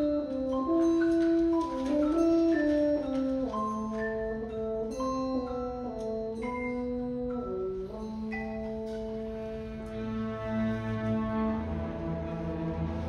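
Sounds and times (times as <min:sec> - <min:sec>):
orchestra playing held notes: 0:00.0 - 0:13.0.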